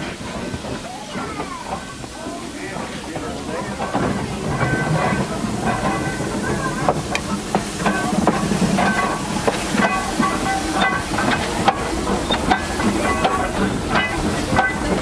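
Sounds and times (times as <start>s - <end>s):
steam hissing: 0.0s - 15.0s
steam locomotive rolling past: 0.0s - 15.0s
metal knocks and clanks: 2.8s - 15.0s.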